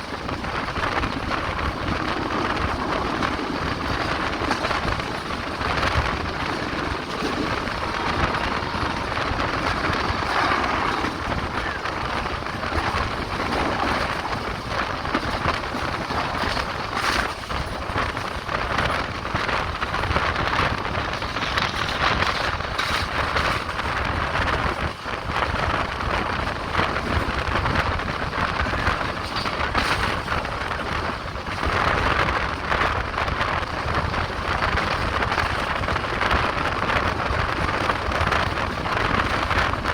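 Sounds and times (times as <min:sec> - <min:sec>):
clatter of knocks and rattles: 0:00.0 - 0:39.9
train rumbling on track: 0:00.0 - 0:39.9.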